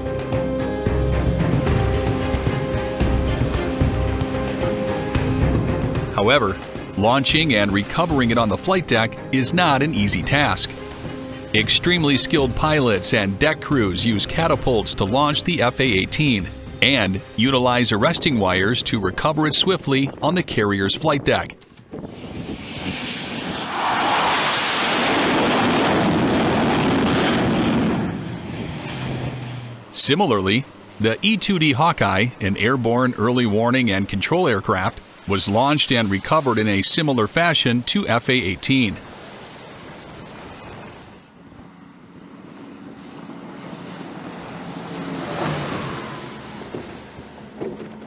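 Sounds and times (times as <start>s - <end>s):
jet engines roaring: 0.0s - 48.0s
turboprop aircraft drone: 0.0s - 48.0s.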